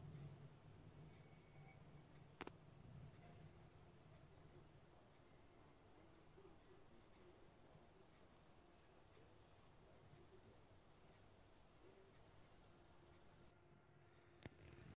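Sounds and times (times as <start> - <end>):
cricket chirping: 0.0 - 13.5.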